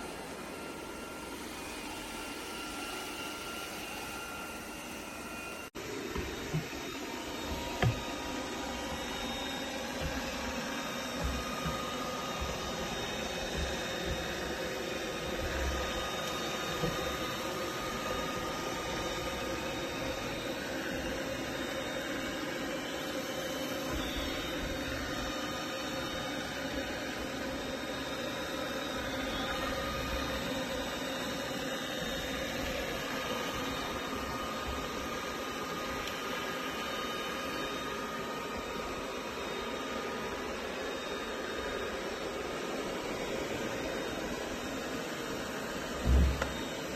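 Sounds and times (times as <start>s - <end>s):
robot vacuum motor whirring: 0.0s - 46.9s.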